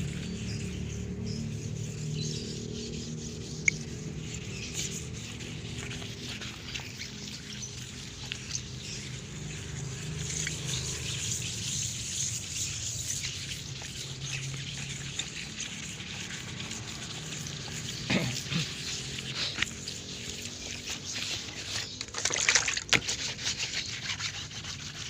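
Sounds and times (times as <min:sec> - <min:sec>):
wet sandpaper rubbing on metal: 0:00.0 - 0:25.0.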